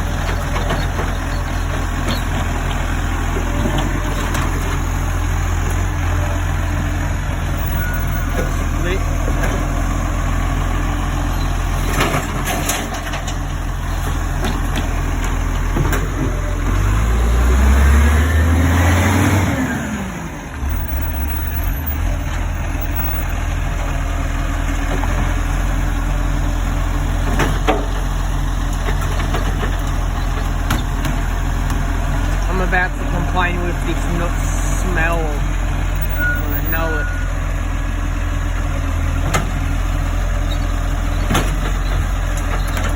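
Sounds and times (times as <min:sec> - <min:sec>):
garbage truck engine idling: 0:00.0 - 0:18.7, 0:19.6 - 0:42.9.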